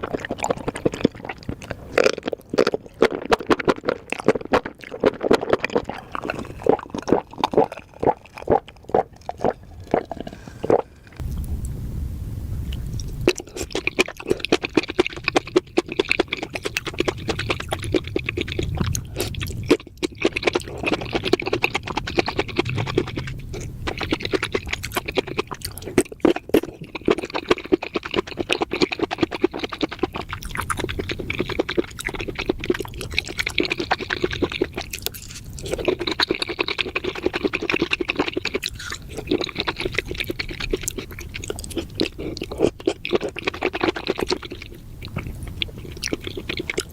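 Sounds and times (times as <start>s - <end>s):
wet chewing of mushrooms: 0.0s - 11.7s, 12.7s - 46.9s.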